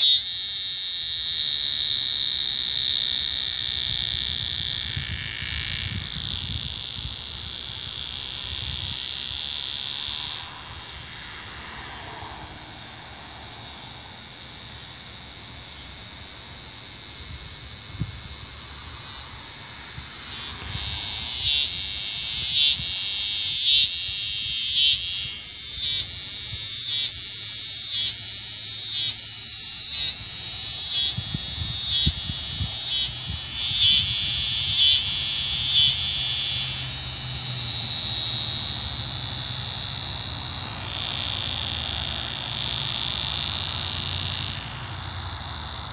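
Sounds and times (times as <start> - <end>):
cicada buzzing: 0.0 - 45.9.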